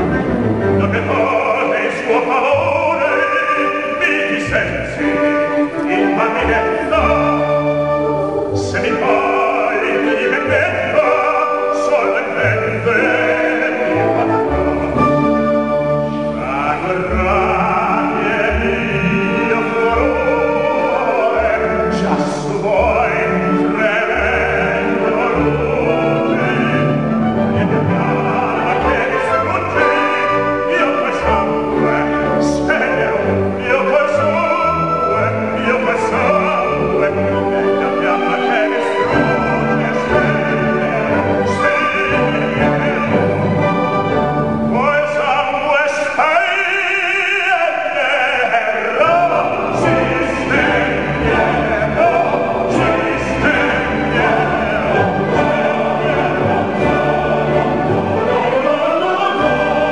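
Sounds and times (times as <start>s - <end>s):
operatic baritone singing: 0.0s - 59.9s
orchestral accompaniment: 0.0s - 59.9s.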